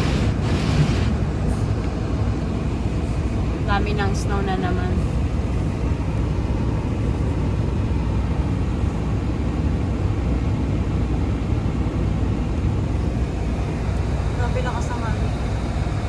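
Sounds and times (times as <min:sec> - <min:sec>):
wind buffeting a car: 0:00.0 - 0:16.0.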